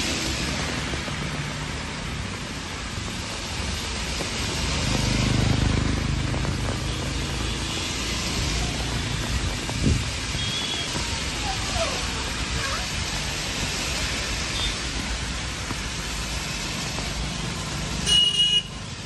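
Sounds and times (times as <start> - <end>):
heavy rain falling: 0.0 - 19.0
traffic on wet road: 0.0 - 19.0.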